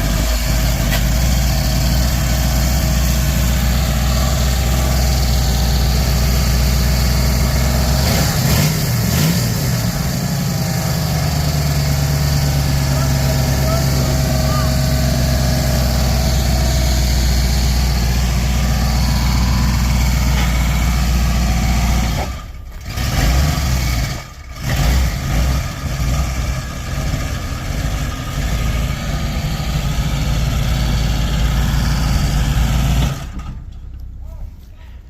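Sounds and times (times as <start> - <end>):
truck engine running rough: 0.0 - 34.1.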